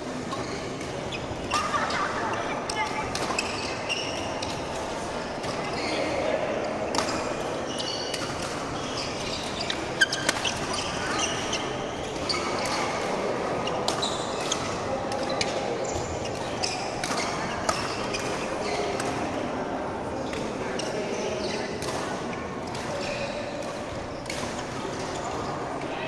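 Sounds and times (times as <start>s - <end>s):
murmur of voices: 0.0s - 26.0s
shoes squeaking on court floor: 0.1s - 19.3s, 20.4s - 25.8s.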